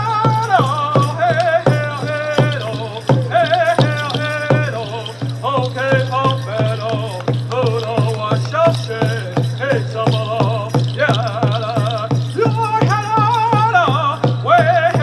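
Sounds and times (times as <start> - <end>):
man singing with vibrato: 0.0 - 15.0
steady percussion beat: 0.0 - 15.0.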